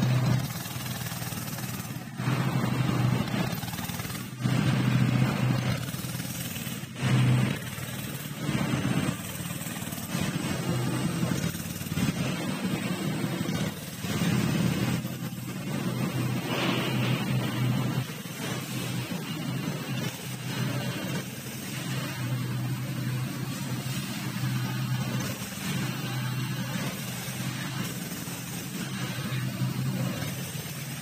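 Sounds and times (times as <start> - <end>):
go-kart engine revving: 0.0 - 31.0.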